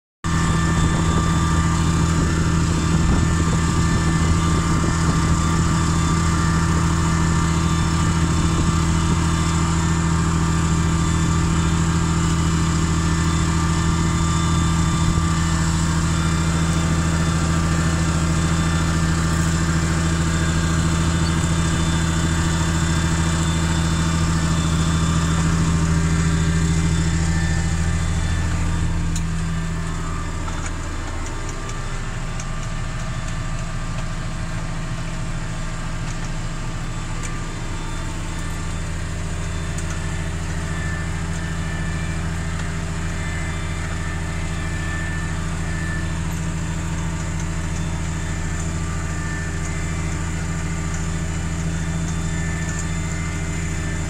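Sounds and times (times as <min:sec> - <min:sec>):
tractor engine droning: 0:00.2 - 0:54.0.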